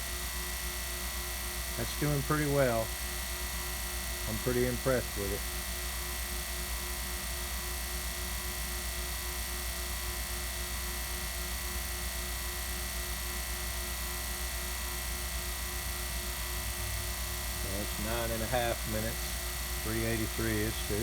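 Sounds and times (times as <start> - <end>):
vacuum pump humming: 0.0 - 21.0.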